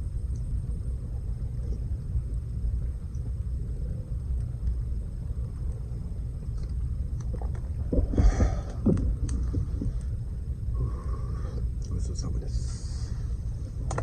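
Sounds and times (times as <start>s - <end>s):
campfire burning: 0.0s - 14.0s
fire crackles: 0.0s - 14.0s.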